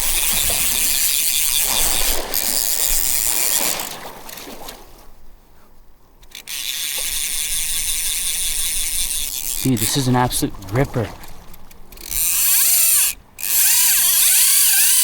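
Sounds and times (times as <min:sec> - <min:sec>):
fishing reel drag buzzing: 0:00.0 - 0:04.6, 0:06.2 - 0:15.0.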